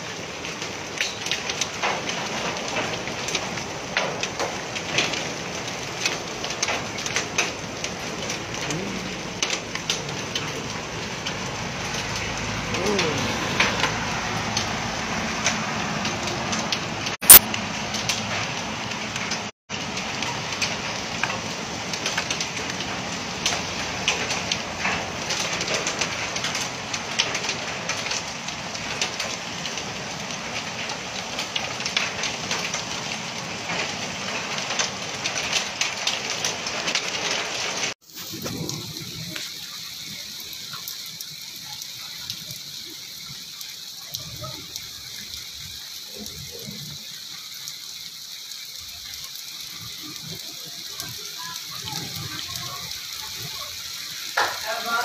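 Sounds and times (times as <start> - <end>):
heavy rain on wet street: 0.0 - 55.0.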